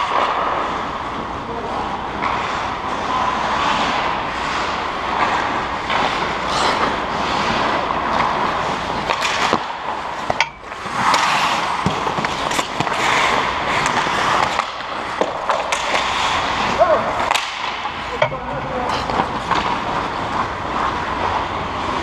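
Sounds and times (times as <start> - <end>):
hockey sticks and puck clacking: 0.0 - 22.0
skate blades scraping ice: 0.0 - 22.0.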